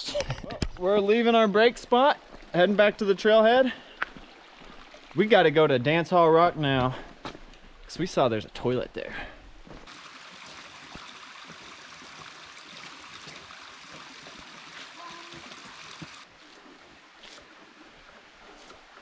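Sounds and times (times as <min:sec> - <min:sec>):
creek trickling into pool: 0:00.3 - 0:09.0, 0:09.8 - 0:19.0.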